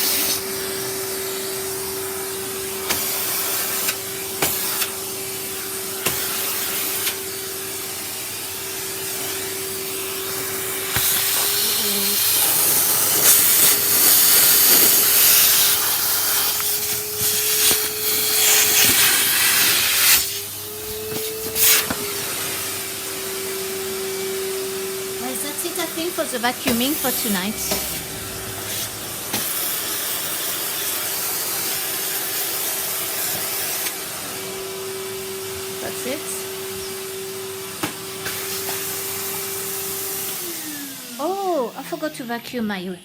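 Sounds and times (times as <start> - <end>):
suction hiss: 0.0 - 40.3
vacuum cleaner motor whine: 0.0 - 43.0.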